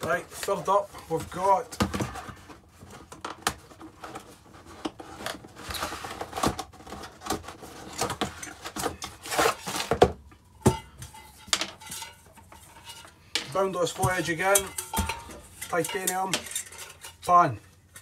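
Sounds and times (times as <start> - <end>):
cardboard rustling and scraping: 0.0 - 14.6.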